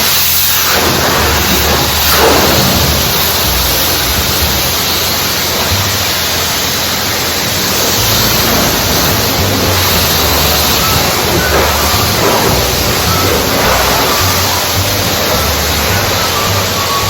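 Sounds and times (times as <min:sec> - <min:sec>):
high-pressure water spray hiss: 0:00.0 - 0:17.0.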